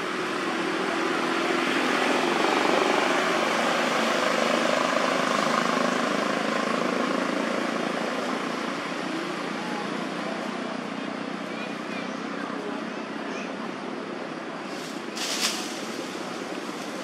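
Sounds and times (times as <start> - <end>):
engine passing by: 0.0 - 17.0.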